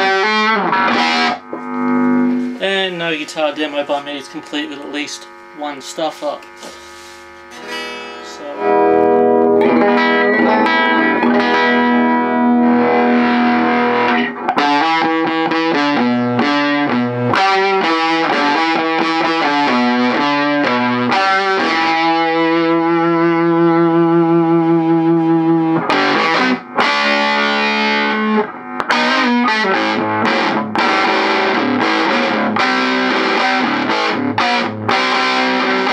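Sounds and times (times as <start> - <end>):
overdriven electric guitar: 0.0 - 35.9.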